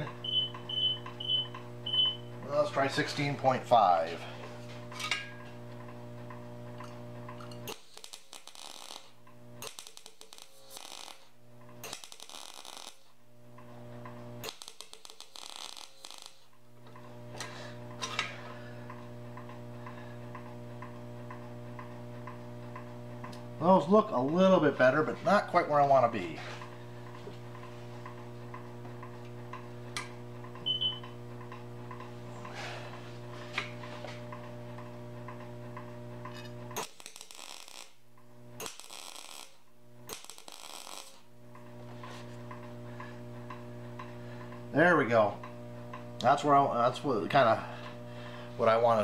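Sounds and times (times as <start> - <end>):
welder humming: 0.0 - 49.0.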